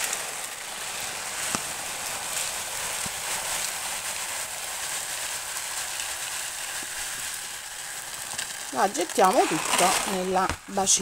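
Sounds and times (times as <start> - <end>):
cat litter pellets pouring into tray: 0.0 - 11.0.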